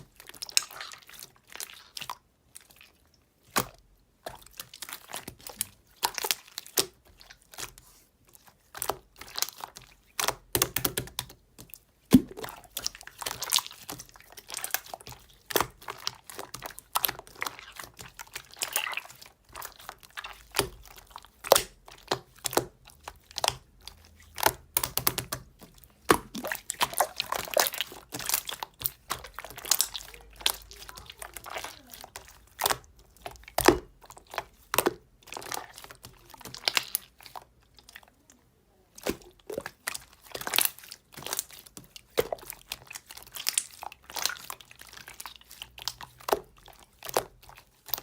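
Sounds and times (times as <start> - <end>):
slime being squished by hand: 0.0 - 38.2, 38.9 - 48.0.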